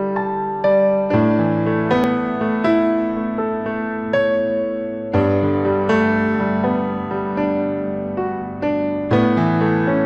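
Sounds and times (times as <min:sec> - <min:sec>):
gentle piano notes: 0:00.0 - 0:10.0.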